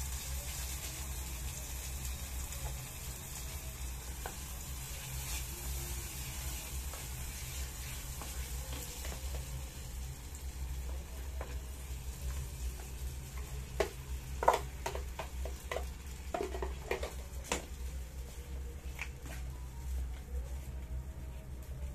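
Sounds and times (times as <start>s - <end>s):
food sizzling in a pot: 0.0s - 18.9s.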